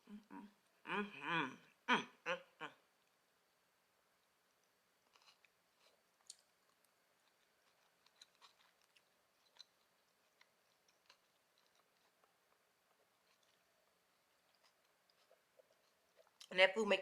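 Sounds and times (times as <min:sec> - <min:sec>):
chewing with small crunches: 0:02.9 - 0:16.6.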